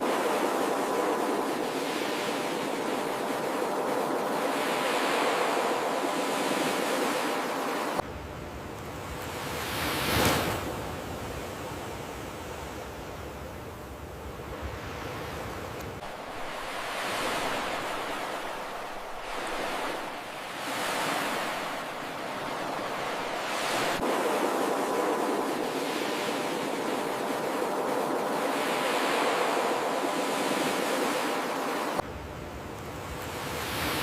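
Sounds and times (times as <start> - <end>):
waves breaking on beach: 0.0 - 8.0, 8.9 - 13.0, 14.4 - 32.1, 32.9 - 34.0.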